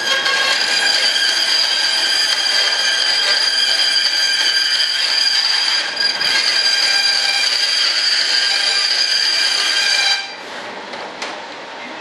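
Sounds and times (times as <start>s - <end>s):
band saw whining: 0.0s - 10.4s.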